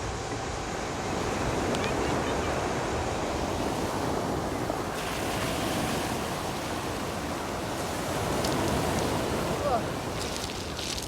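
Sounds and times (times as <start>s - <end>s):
sea waves washing on shore: 0.5s - 11.0s.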